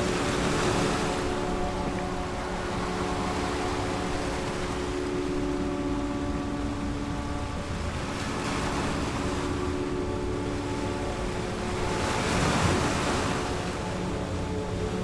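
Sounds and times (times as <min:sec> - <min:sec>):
relaxation music drone: 0:00.0 - 0:15.0.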